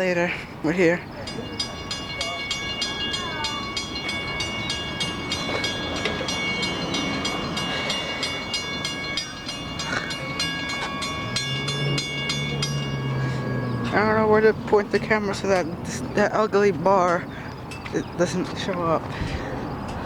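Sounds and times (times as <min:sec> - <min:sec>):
steady high tones: 0:01.1 - 0:17.9.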